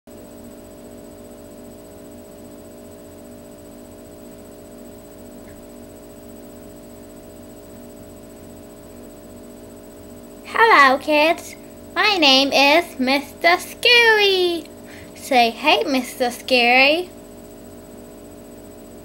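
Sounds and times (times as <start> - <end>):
steady background hum: 0.2 - 19.0.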